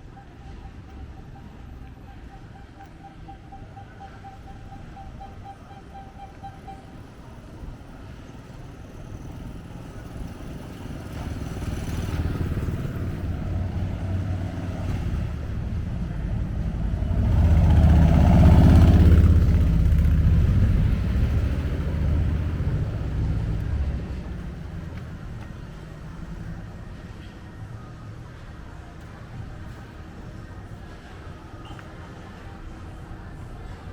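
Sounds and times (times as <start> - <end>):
vehicle engine humming: 0.0 - 33.9.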